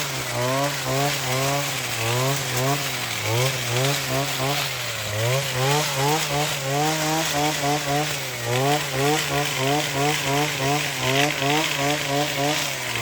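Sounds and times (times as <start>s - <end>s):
coffee harvester motor running: 0.0s - 13.0s.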